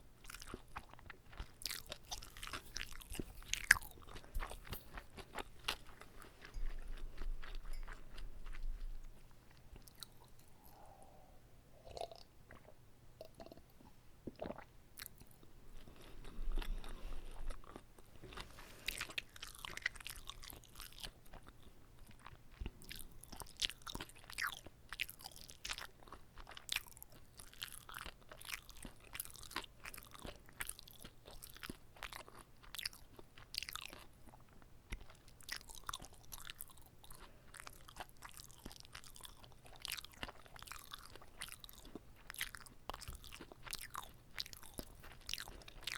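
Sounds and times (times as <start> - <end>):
biting and chewing food: 0.0 - 11.1, 14.3 - 45.9
close chewing with wet mouth clicks: 0.2 - 11.0, 14.3 - 45.9.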